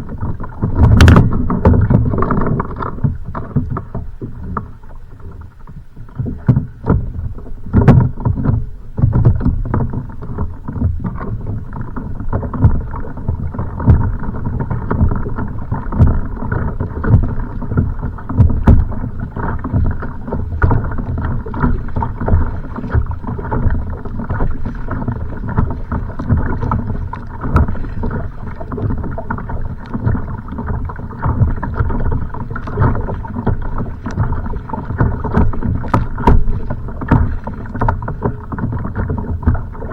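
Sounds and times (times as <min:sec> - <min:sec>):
low thumps on hull: 0:00.0 - 0:39.9
water slapping against kayak hull: 0:00.0 - 0:39.9.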